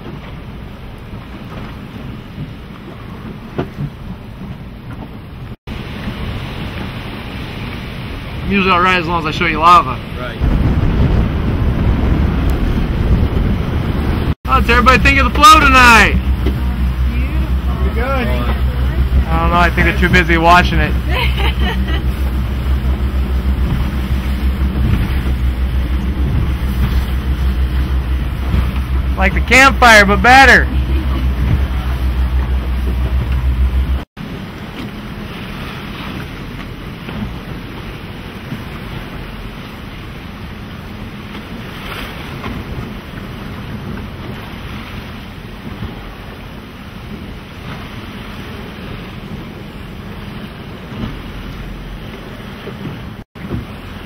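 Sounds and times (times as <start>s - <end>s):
boat engine humming: 0.0s - 54.0s
choppy sea: 0.0s - 54.0s
wind buffeting microphone: 0.0s - 54.0s.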